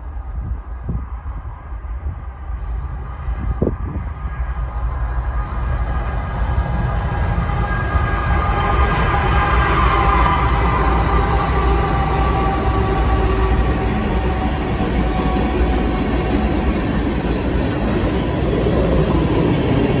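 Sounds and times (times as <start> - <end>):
train wheels on rail: 0.1 - 20.0.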